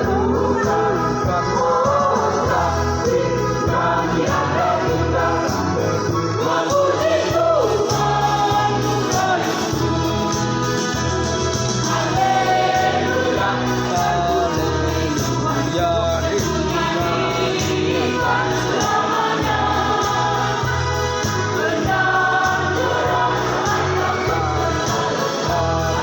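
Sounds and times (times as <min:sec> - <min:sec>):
choir singing a hymn: 0:00.0 - 0:26.0
instrumental accompaniment with bass: 0:00.0 - 0:26.0.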